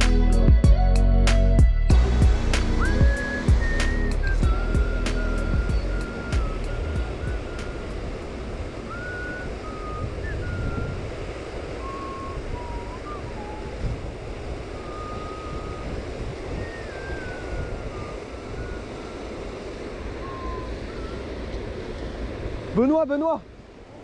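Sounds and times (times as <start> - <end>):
wind rumbling on microphone: 0.0 - 24.0
faint thin wavering tone: 1.9 - 22.4.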